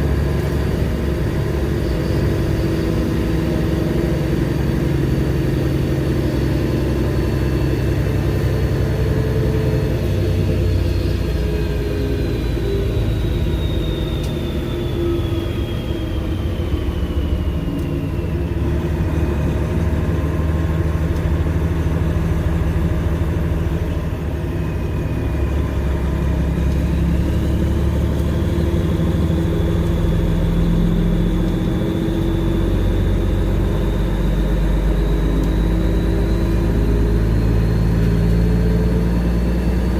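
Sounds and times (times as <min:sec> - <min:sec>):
diesel truck engine droning: 0:00.0 - 0:39.9
high whine: 0:00.0 - 0:39.9.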